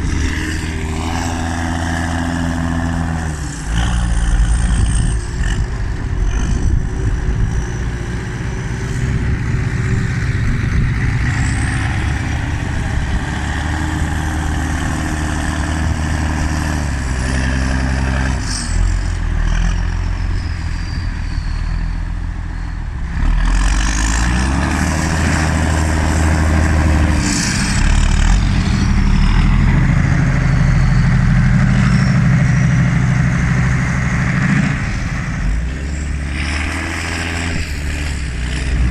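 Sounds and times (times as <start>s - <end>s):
tractor engines running hard: 0.0s - 38.9s.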